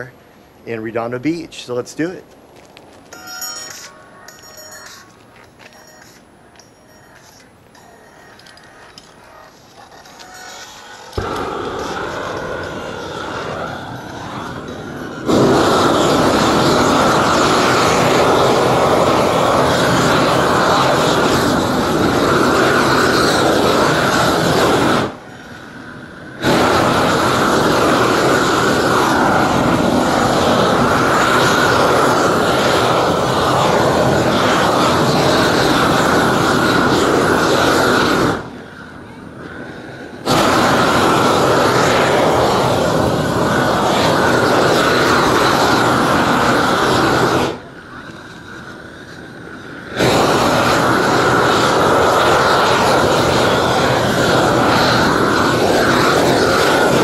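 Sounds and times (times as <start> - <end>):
roofing torch flame rushing: 9.6 - 57.0.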